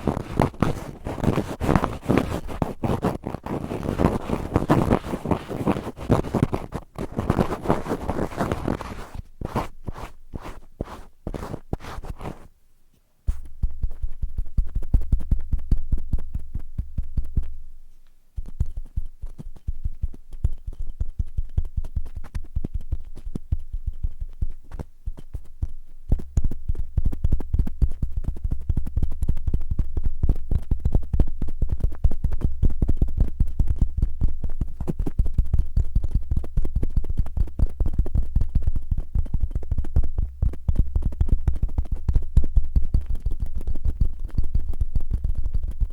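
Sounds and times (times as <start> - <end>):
cotton swabs scratching microphone: 0.0 - 12.5, 13.3 - 17.6, 18.4 - 45.9.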